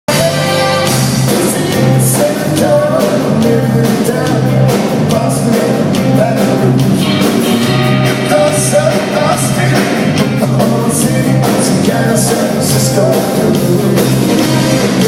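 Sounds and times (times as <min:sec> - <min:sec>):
drums: 0:00.0 - 0:15.0
bass guitar: 0:00.1 - 0:15.0
electric guitar: 0:00.1 - 0:15.0
person singing lead vocal: 0:00.1 - 0:15.0.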